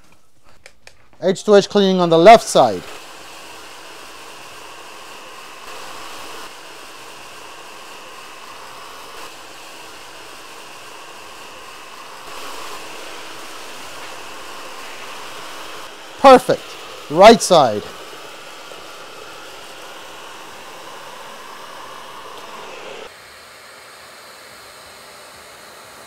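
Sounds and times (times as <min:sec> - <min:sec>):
stick vacuum running: 0:01.4 - 0:23.2.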